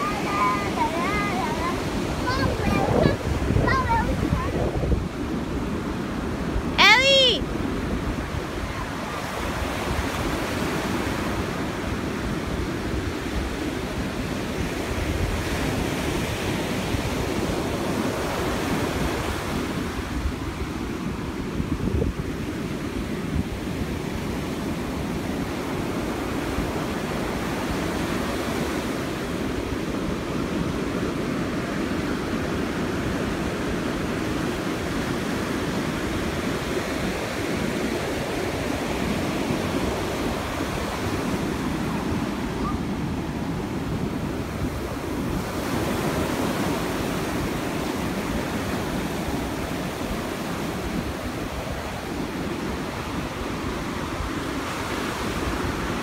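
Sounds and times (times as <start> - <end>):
ocean surf breaking: 0.0 - 56.0
wind on microphone: 0.0 - 56.0.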